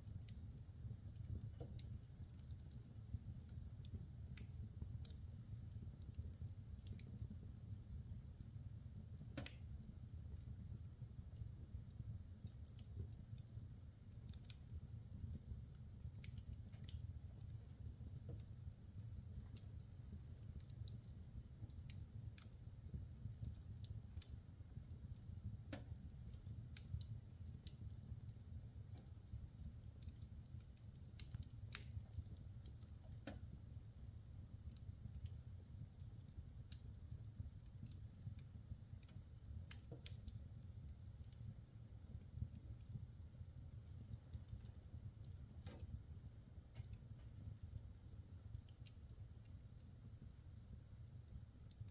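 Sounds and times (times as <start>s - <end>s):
fire crackles and pops: 0.0s - 51.9s
low fire rumble: 0.0s - 51.9s.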